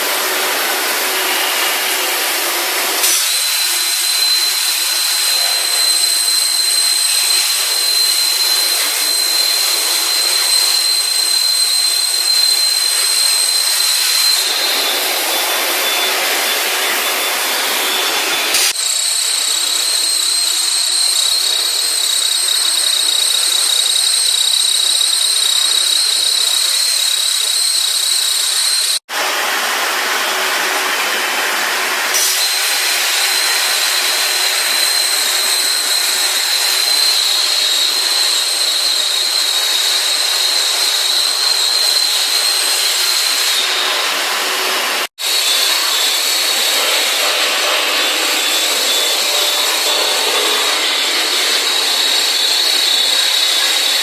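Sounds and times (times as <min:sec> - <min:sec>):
metal-cutting machine whining: 0:00.0 - 0:54.0.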